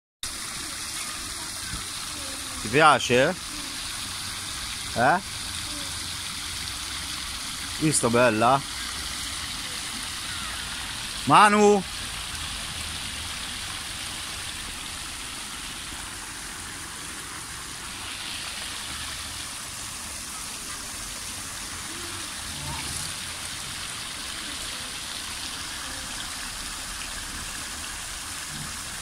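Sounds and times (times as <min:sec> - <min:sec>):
fountain water splashing into basin: 0:00.2 - 0:29.0.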